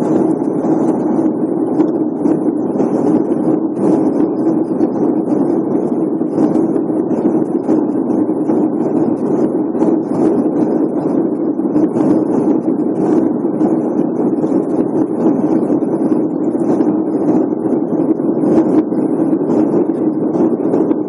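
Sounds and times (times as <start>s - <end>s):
airliner cabin engine and airflow noise: 0.0s - 21.0s.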